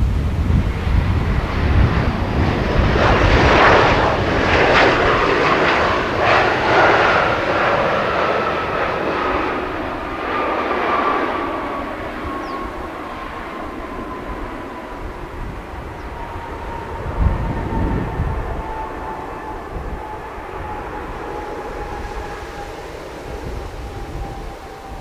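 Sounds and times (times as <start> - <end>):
jet engine whine falling: 0.0 - 25.0
jet engines rushing: 0.0 - 25.0.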